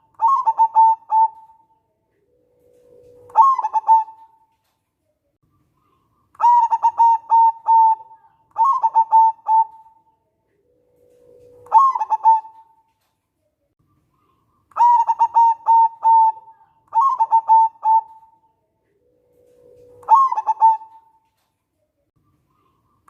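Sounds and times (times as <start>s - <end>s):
dove cooing: 0.0s - 4.5s, 5.9s - 12.9s, 14.2s - 21.2s.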